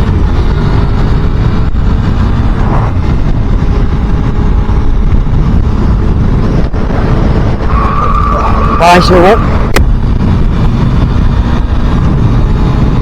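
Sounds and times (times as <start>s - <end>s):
motorcycle engine running: 0.0s - 13.0s
wind rush on microphone: 0.0s - 13.0s.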